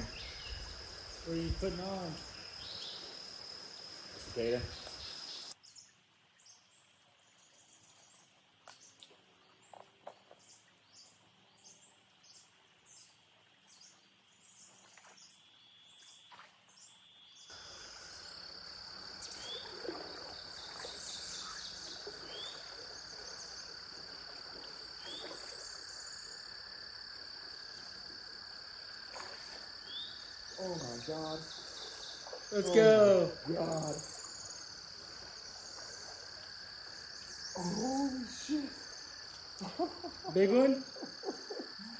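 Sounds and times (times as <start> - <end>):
cicadas droning: 0.0 - 41.9.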